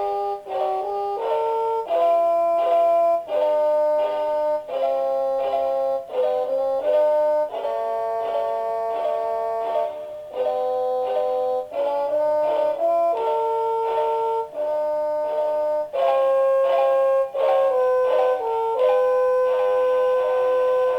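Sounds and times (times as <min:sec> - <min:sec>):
electronic alarm clock melody: 0:00.0 - 0:20.9.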